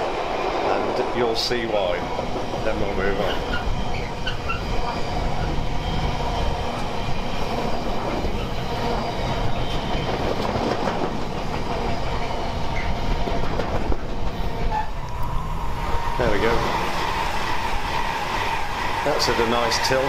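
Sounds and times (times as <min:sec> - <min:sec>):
freight train wheels on rail: 0:00.0 - 0:20.0.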